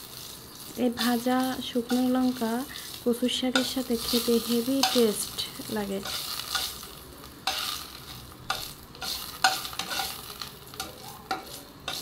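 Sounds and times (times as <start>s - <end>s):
chillies sizzling in oil: 0.0s - 12.0s
spatula scraping a wok: 0.0s - 12.0s.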